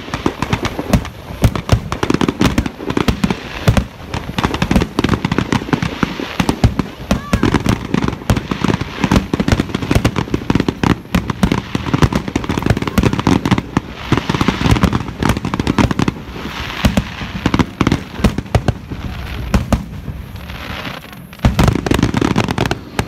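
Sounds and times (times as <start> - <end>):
fireworks bangs: 0.0 - 23.0
fireworks crackling: 0.0 - 23.0.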